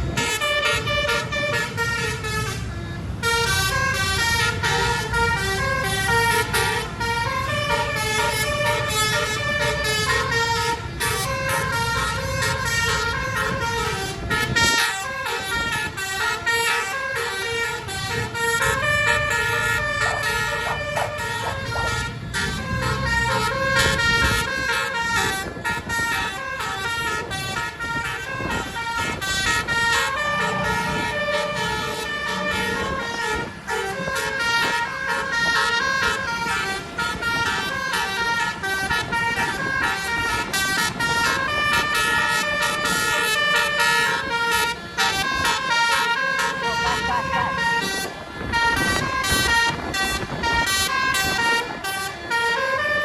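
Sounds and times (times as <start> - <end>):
musical bus horn melody: 0.0 - 53.0.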